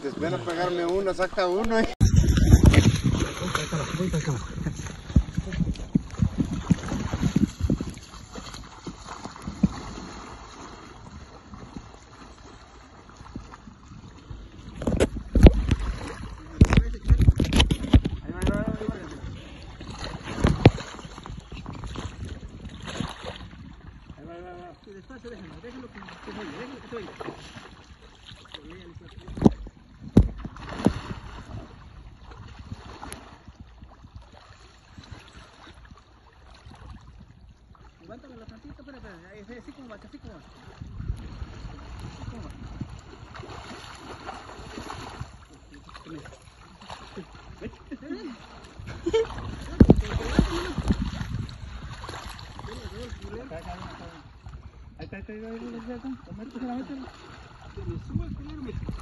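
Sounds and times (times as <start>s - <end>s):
river water lapping: 0.0s - 59.0s
wind rumbling on microphone: 0.0s - 59.0s.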